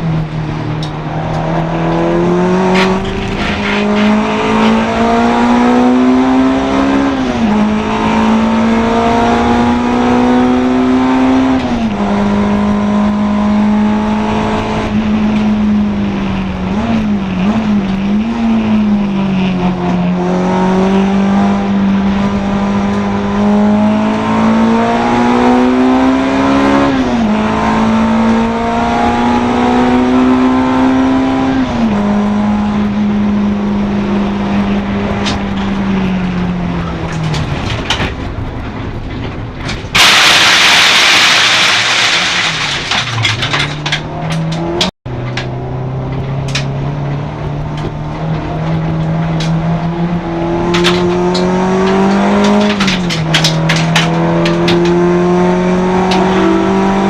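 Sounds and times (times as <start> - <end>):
race car engine at high revs: 0.0 - 37.9, 40.0 - 57.0.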